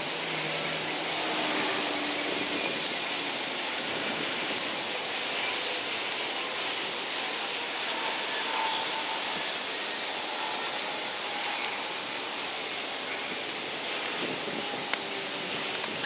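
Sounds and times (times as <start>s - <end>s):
distant engine noise: 0.0s - 16.0s.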